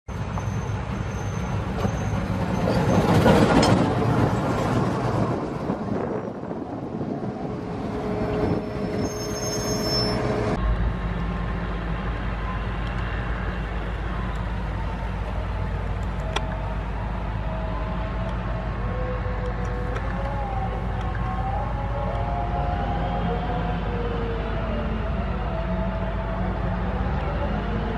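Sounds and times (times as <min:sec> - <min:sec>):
diesel engine drone: 0:00.1 - 0:27.9
diesel locomotive passing: 0:00.1 - 0:27.9.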